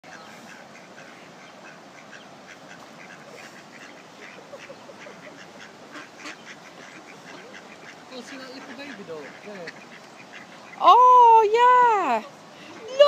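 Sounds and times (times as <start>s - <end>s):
ducks quacking: 0.0s - 11.1s
ducks high calls: 0.1s - 13.0s.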